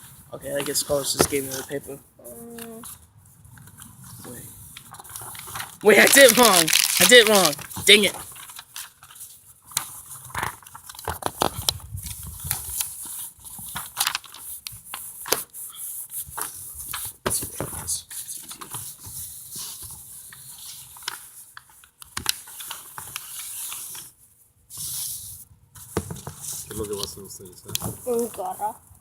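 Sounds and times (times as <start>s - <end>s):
paper crinkling and rustling: 3.6s - 29.0s.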